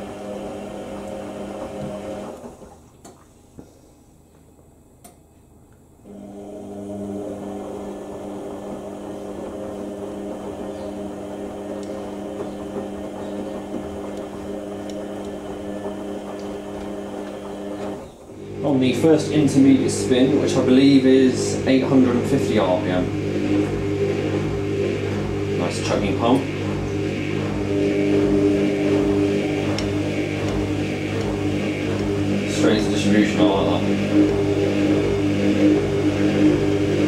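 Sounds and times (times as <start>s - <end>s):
washing machine drain pump humming: 0.0s - 3.6s, 6.0s - 37.0s.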